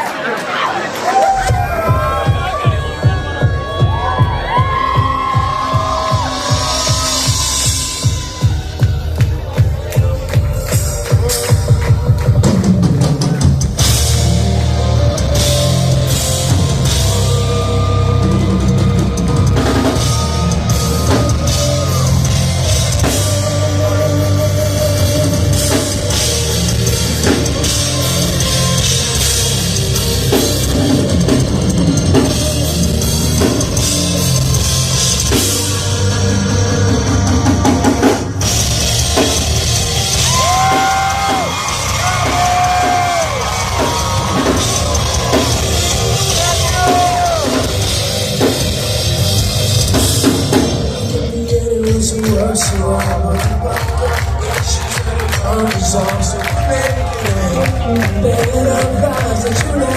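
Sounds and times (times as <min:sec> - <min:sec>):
rock band playing live: 0:01.2 - 0:59.9
drum kit with cymbals: 0:01.4 - 0:59.9.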